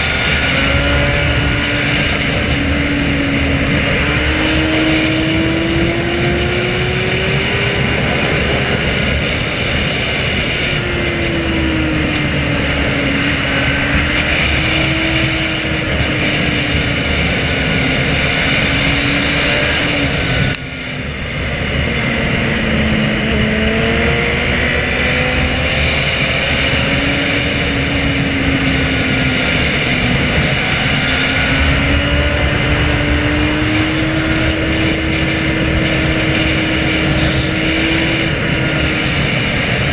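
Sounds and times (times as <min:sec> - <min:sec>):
motorcycle engine running at speed: 0:00.0 - 0:39.9
wind noise: 0:00.0 - 0:39.9.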